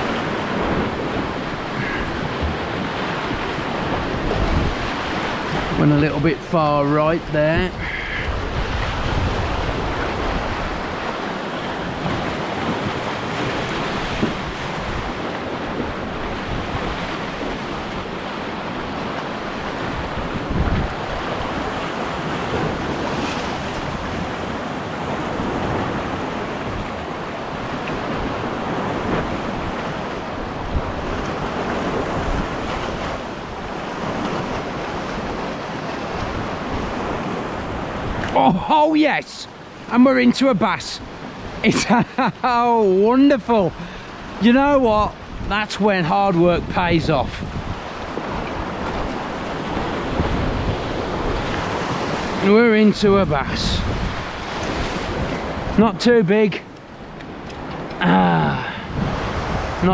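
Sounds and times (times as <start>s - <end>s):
wind on microphone: 0.0s - 38.4s, 43.7s - 45.7s, 46.4s - 55.8s, 56.9s - 59.9s
sea surf washing: 0.0s - 59.9s.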